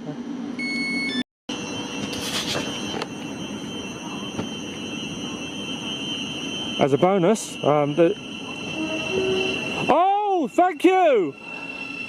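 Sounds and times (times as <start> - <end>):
high-pitched whine: 0.5 - 12.0
electric train rushing: 1.5 - 12.0.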